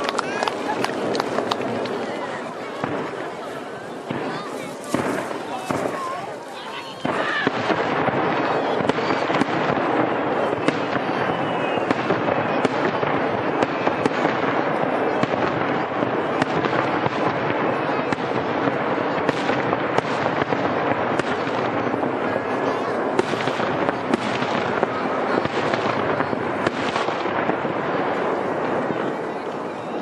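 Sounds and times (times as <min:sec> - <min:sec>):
fireworks crackling: 0:00.0 - 0:30.0
loud firework bangs: 0:00.0 - 0:30.0.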